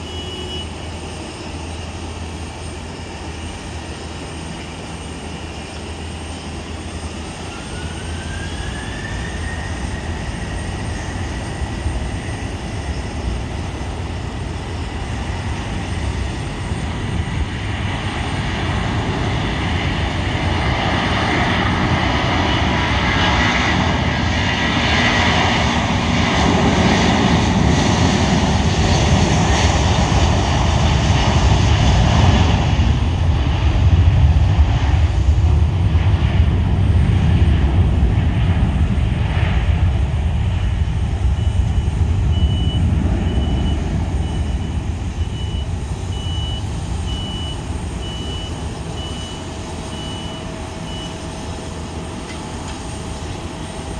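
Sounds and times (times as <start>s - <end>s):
jet engines spooling up: 0.0s - 53.9s.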